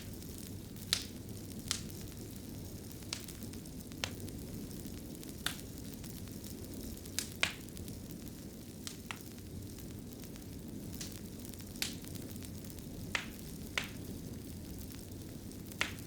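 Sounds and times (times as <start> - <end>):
fire popping: 0.0 - 16.0
wood fire rumbling: 0.0 - 16.0.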